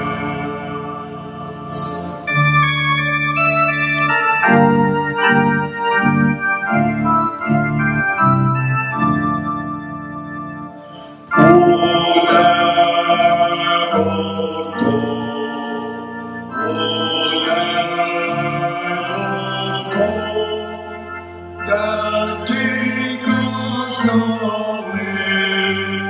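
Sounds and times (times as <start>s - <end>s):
organ playing chords: 0.0s - 26.0s.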